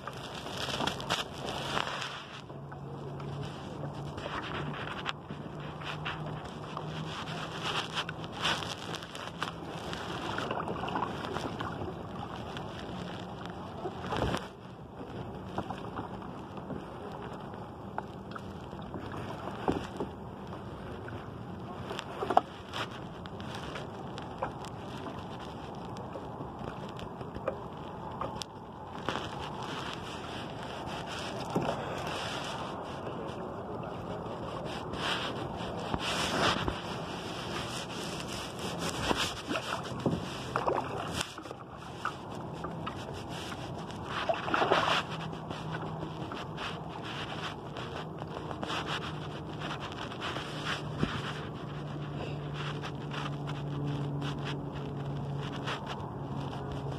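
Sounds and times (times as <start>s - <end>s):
water noise: 0.0s - 56.9s
wind: 0.0s - 56.9s.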